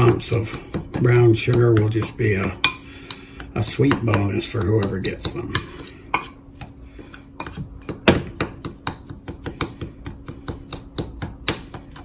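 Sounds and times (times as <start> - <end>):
fork tapping ceramic bowl: 0.0 - 6.8, 7.4 - 12.0.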